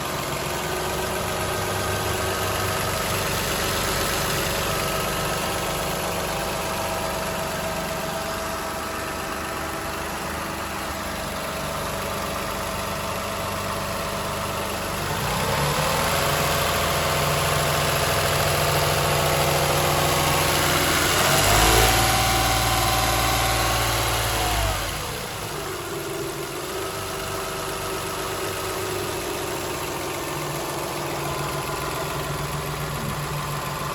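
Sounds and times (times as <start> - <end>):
car engine idling and revving: 0.0 - 33.9
engine rattling knocking: 0.0 - 33.9.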